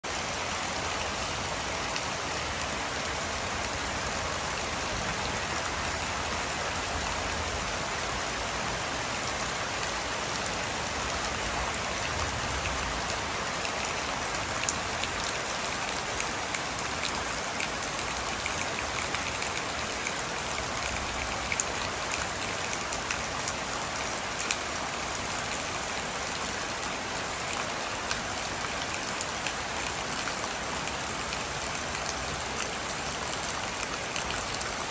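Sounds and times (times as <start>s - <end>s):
steady rain on foliage: 0.0s - 34.9s.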